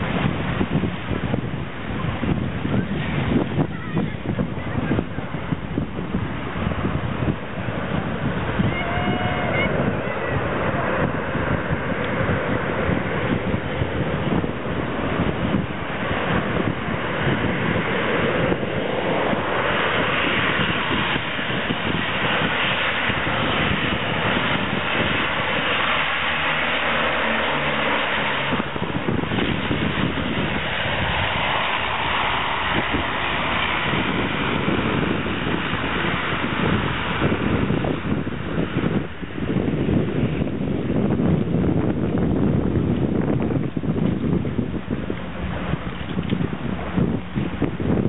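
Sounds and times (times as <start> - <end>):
propeller aircraft droning: 0.0 - 48.0
wind noise on microphone: 0.0 - 48.0.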